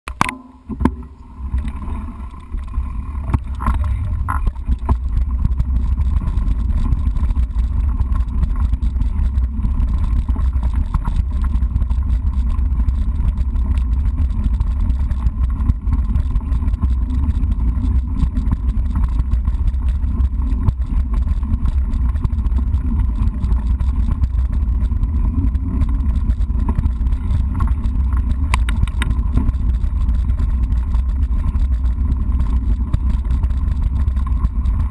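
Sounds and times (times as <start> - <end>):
wind on microphone: 0.2 - 34.9
bike tyre rolling over gravel: 0.6 - 34.9.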